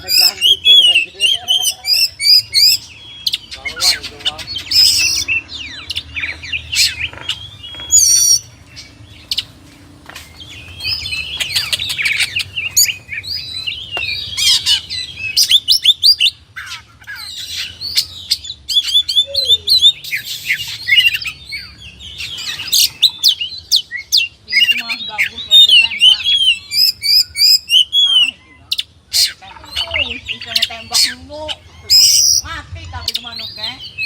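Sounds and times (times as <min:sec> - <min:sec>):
bird singing varied song: 0:00.0 - 0:34.0.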